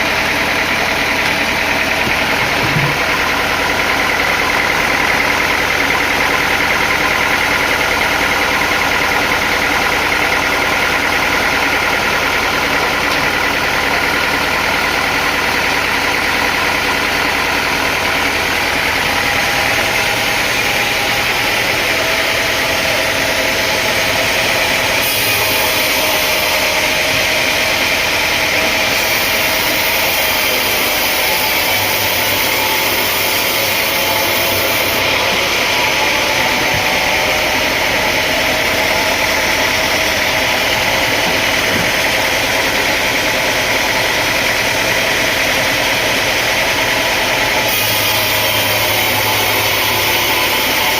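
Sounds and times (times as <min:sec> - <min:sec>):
sawmill machinery humming and whining: 0:00.0 - 0:50.9.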